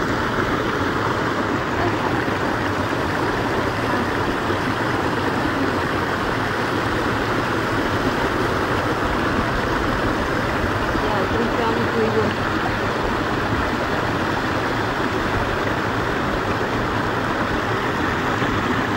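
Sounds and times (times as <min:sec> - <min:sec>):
stream rushing over rocks: 0:00.0 - 0:18.9.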